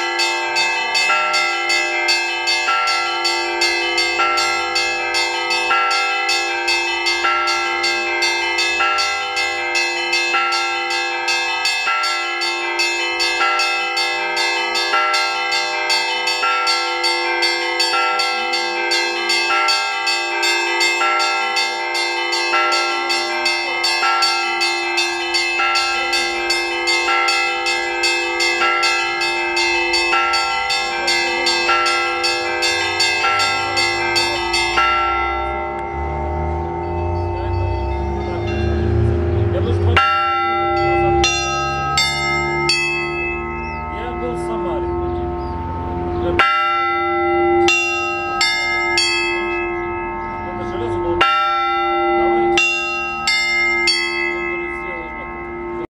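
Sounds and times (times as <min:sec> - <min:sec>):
low bell tone: 0:00.0 - 0:55.9
small bells struck rapidly: 0:00.0 - 0:55.9.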